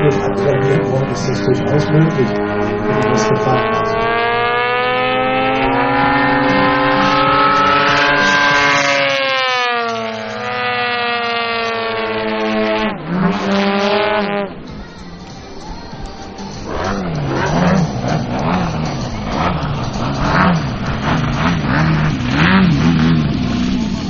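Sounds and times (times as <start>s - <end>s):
model plane engines passing: 0.0s - 24.0s.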